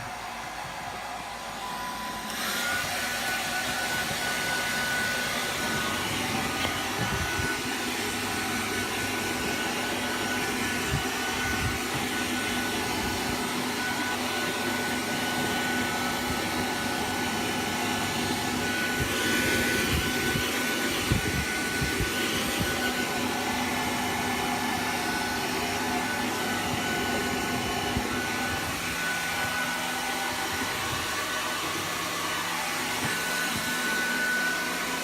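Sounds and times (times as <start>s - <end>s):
hair dryer blowing with high whine: 0.0s - 35.0s.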